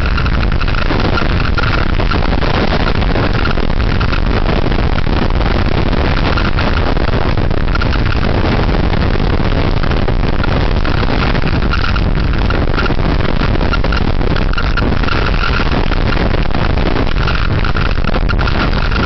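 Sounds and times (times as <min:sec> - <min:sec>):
torrential rain hiss: 0:00.0 - 0:19.0
wind buffeting microphone: 0:00.0 - 0:19.0.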